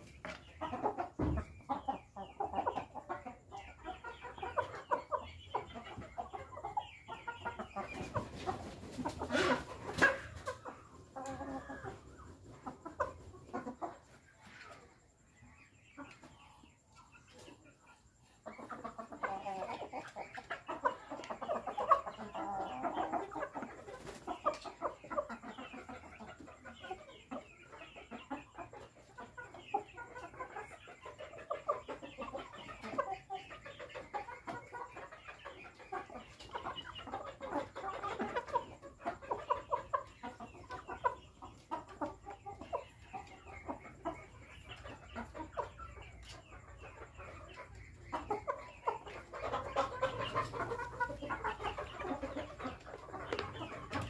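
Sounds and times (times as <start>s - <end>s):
chickens clucking softly: 0.0s - 54.0s.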